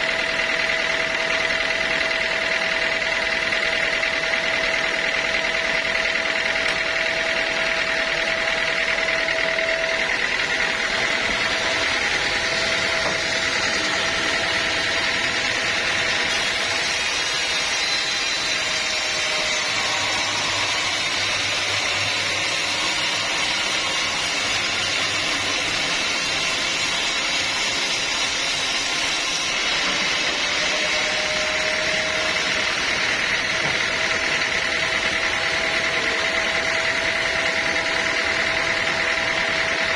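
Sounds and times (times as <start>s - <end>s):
sawmill saw and motor running: 0.0s - 39.9s.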